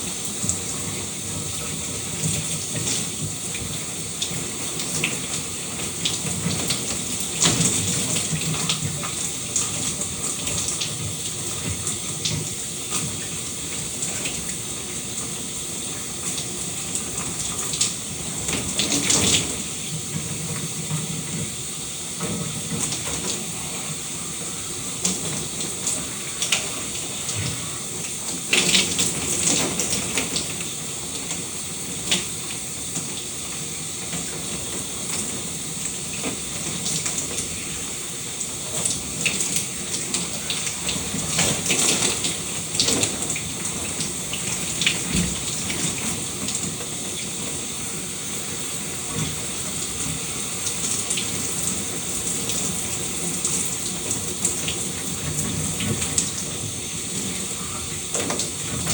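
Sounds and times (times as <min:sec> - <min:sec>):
shower water spraying: 0:00.0 - 0:58.9.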